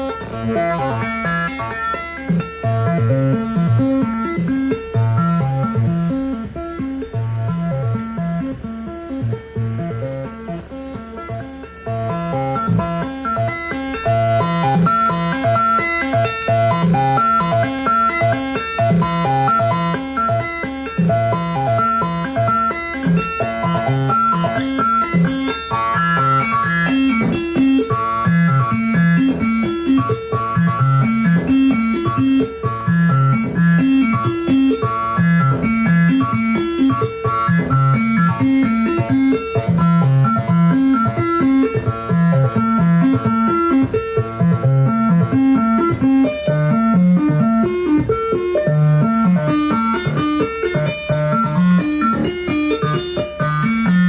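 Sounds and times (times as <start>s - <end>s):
synthesizer arpeggio: 0.0s - 54.0s.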